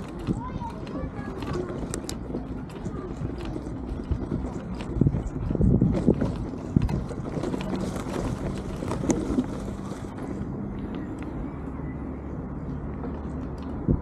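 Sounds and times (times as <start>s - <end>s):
bicycle tyres rolling: 0.0s - 14.0s
bike rattling and clicking: 0.0s - 14.0s.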